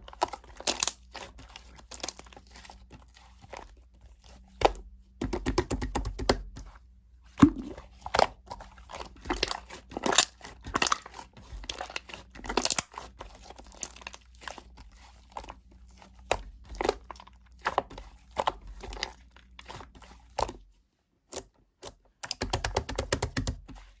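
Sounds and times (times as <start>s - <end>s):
slime kneaded by hand: 0.1s - 24.0s.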